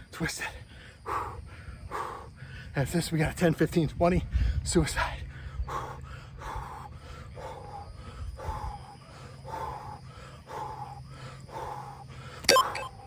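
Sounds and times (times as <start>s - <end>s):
man breathing hard: 0.4s - 2.8s, 4.2s - 13.0s.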